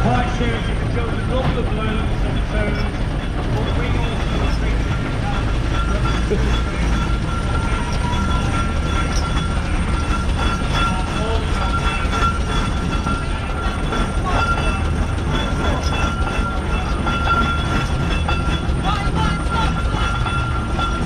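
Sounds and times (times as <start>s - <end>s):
steam tractor rumble with whine: 0.0s - 21.0s.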